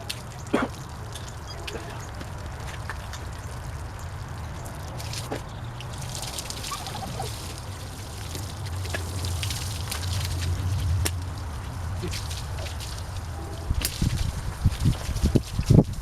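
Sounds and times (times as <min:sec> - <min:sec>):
water pouring and trickling: 0:00.0 - 0:16.0
water splashes: 0:00.0 - 0:16.0.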